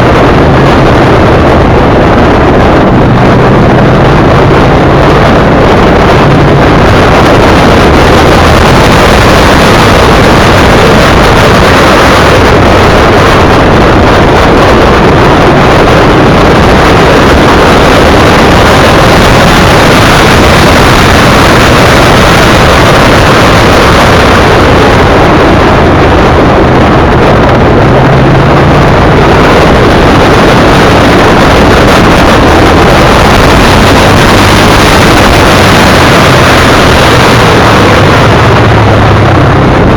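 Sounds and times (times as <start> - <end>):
motorcycle engine: 0.0 - 39.9
wind noise on microphone: 0.0 - 39.9.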